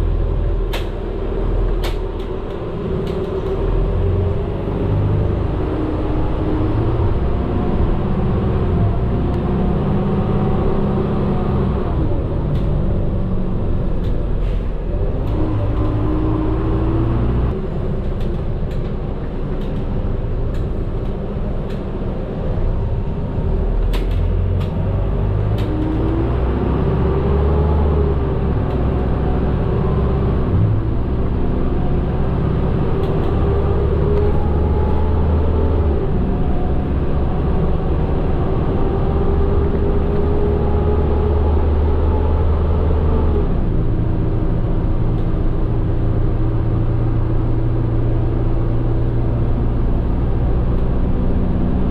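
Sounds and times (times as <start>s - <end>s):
bus engine drone: 0.0s - 51.9s.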